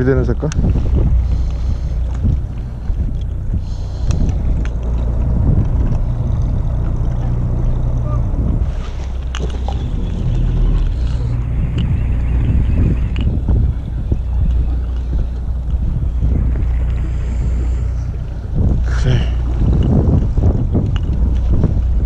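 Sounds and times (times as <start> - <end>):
boat engine humming: 0.0 - 22.0
wind buffeting microphone: 0.0 - 22.0.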